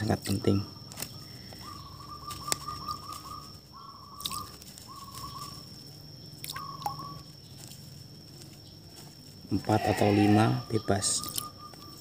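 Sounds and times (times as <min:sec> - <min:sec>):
faint high whine: 0:00.0 - 0:12.0
bird calling rapid notes: 0:00.4 - 0:07.7, 0:09.6 - 0:12.0.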